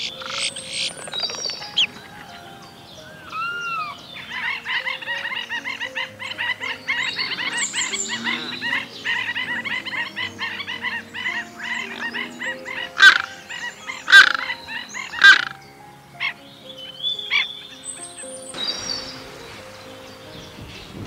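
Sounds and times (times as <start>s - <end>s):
chorus of chirping calls: 0.0s - 21.0s
low background music: 0.0s - 21.0s.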